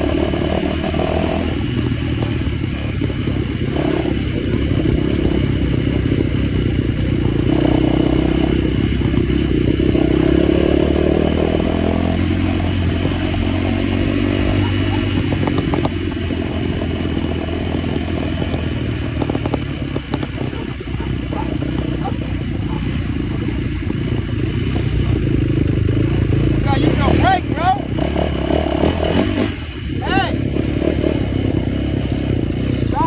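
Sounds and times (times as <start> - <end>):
small motorcycle engine revving: 0.0 - 33.0.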